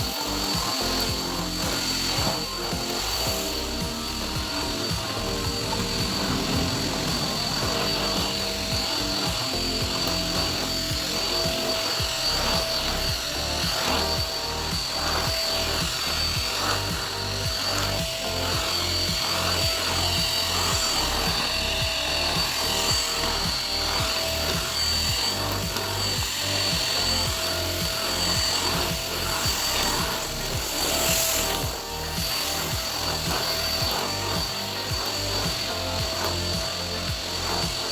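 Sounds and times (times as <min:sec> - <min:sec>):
background music with beat: 0:00.0 - 0:37.9
vacuum cleaner whine: 0:00.0 - 0:37.9.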